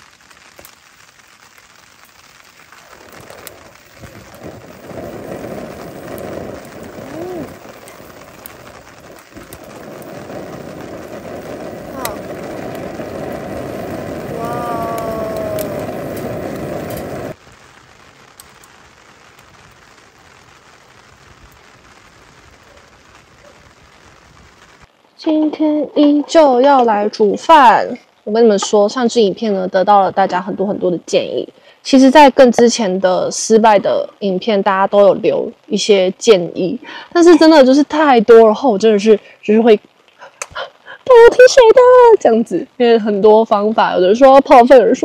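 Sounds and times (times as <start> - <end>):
rain patter: 0.0 - 45.0
wood fire crackling in a stove: 0.0 - 45.0.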